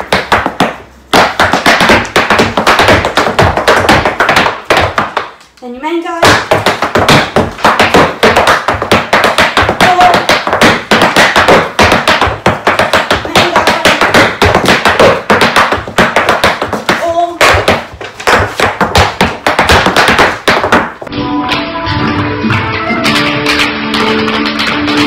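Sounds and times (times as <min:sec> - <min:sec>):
hard shoes tapping on floor: 0:00.0 - 0:05.6, 0:06.2 - 0:21.1.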